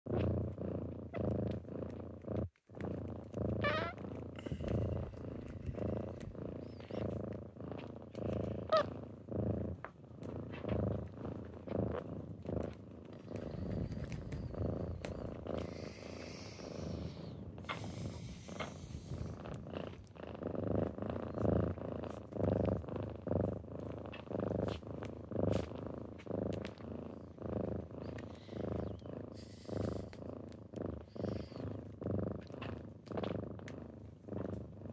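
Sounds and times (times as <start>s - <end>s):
kittens purring: 0.0s - 34.9s.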